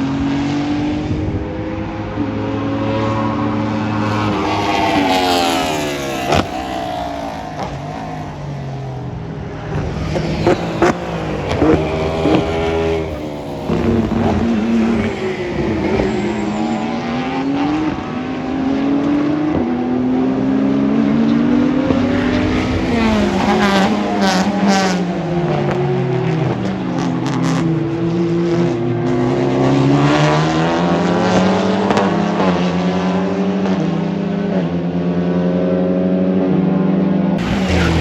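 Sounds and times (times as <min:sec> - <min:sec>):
racing cars passing: 0:00.0 - 0:38.0.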